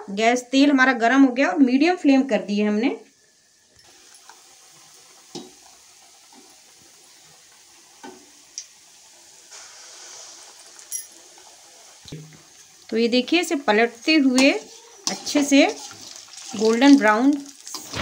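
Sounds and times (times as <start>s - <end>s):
hot oil sizzling: 0.0s - 18.0s.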